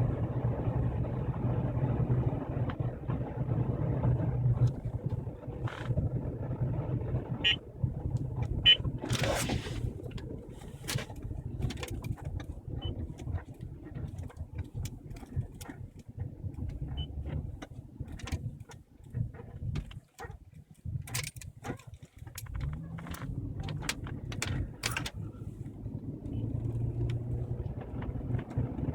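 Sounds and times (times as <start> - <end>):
car engine rumbling: 0.0 - 28.9.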